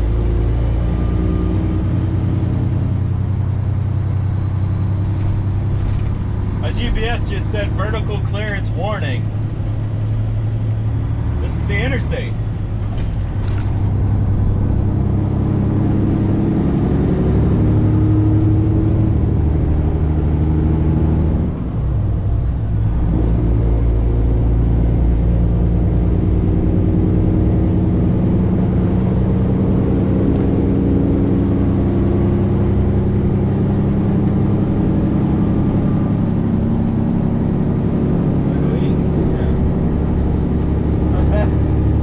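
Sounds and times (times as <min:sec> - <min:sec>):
truck diesel engine under load: 0:00.0 - 0:42.0.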